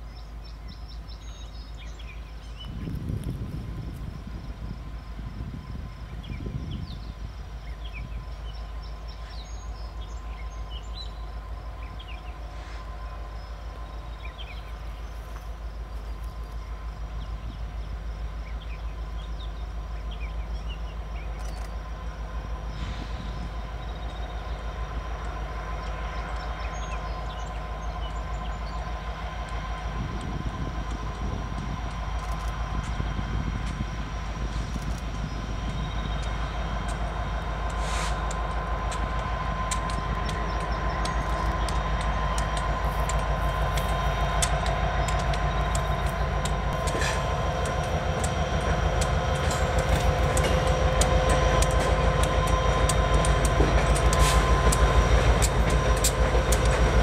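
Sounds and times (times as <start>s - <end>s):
diesel locomotive engines rumbling: 0.0s - 57.0s
train wheels clicking over rails: 7.6s - 57.0s.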